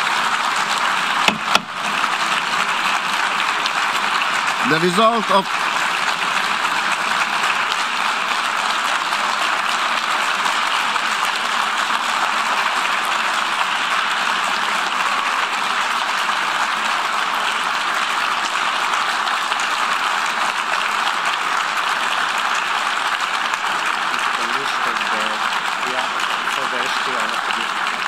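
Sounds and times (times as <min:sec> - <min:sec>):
crowd applauding: 0:00.0 - 0:28.0.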